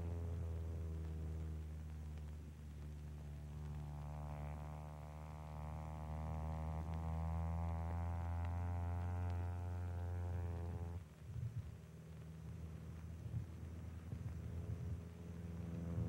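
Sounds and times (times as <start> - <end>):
biplane radial engine droning: 0.0 - 16.0.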